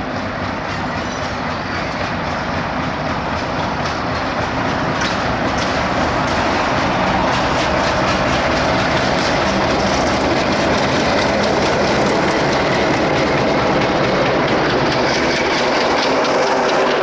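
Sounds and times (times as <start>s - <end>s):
diesel locomotive drone: 0.0s - 17.0s
train wheels rolling on rails: 0.0s - 17.0s.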